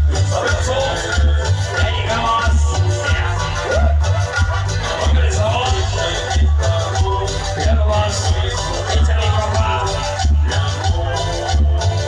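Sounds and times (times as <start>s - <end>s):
latin dance music: 0.0s - 12.0s.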